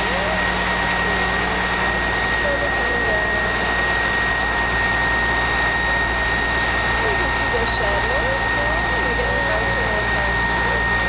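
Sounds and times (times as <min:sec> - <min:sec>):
hydraulic high whine: 0:00.0 - 0:11.0
truck engine running: 0:00.0 - 0:11.0.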